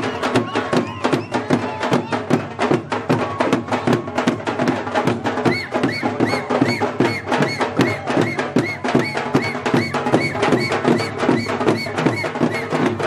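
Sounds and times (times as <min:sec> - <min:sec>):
fast driving drum beat: 0:00.0 - 0:13.0.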